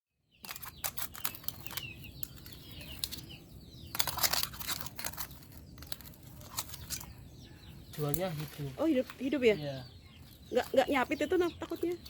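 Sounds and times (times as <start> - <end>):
crabs rustling and clicking: 0.3 - 12.0.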